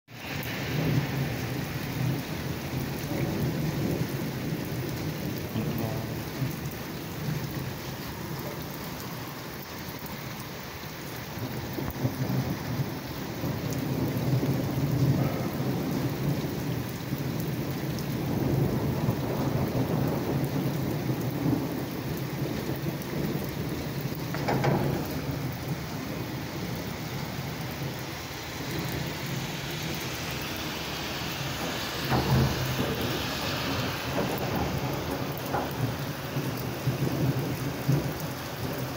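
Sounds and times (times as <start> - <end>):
heavy rain splashing into water: 0.1 - 38.9
rolling thunder: 0.2 - 38.9.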